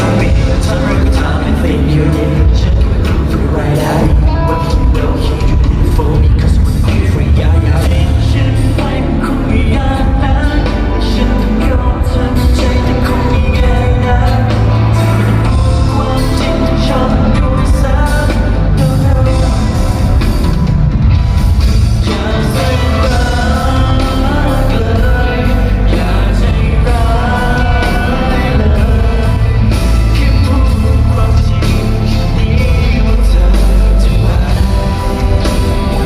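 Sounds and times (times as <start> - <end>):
lead singer singing: 0.0 - 36.0
live pop-rock band playing: 0.0 - 36.0.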